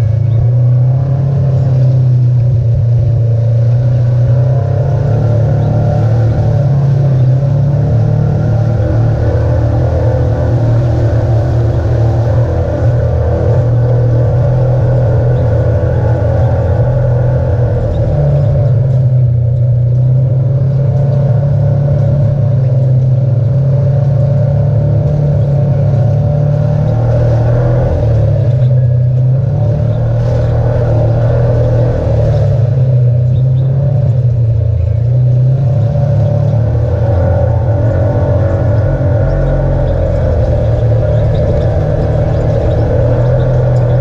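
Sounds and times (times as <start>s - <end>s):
utility vehicle engine running: 0.0s - 44.0s.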